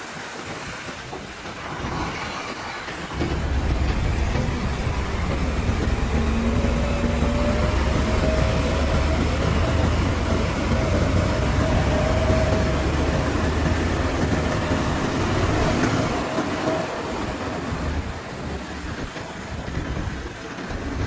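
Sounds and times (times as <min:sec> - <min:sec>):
heavy diesel engine rumble: 0:03.1 - 0:21.0.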